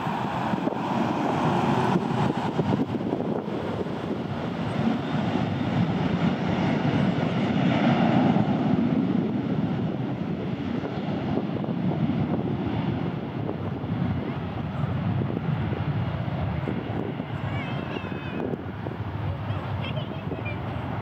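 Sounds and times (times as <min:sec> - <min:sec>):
jet engines roaring on takeoff: 0:00.0 - 0:21.0.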